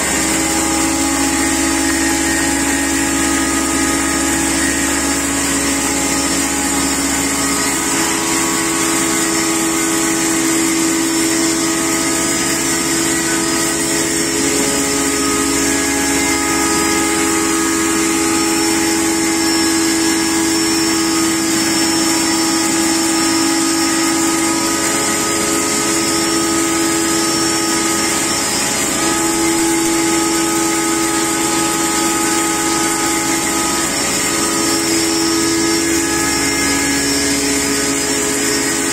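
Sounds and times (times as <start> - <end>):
grinding mill whining: 0.0 - 38.9.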